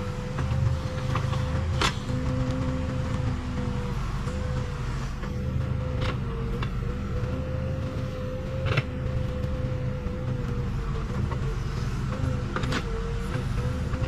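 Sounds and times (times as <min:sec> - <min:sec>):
diesel engine running: 0:00.0 - 0:14.0
steady whine: 0:00.0 - 0:14.0.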